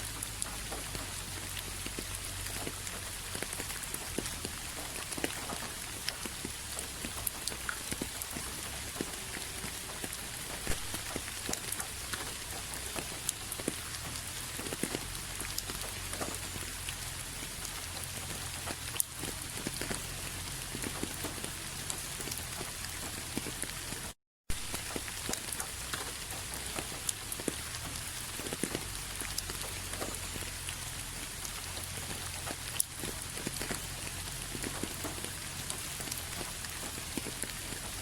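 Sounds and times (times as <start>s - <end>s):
raindrops ticking: 0.0s - 38.0s
steady rain falling: 0.0s - 38.0s.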